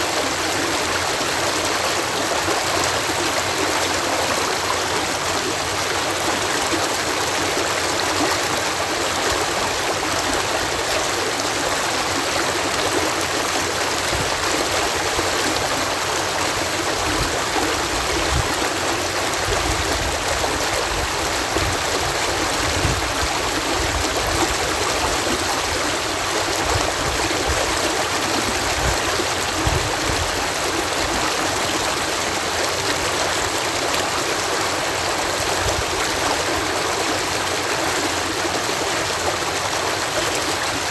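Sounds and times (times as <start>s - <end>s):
water cascading through lock: 0.0s - 40.9s.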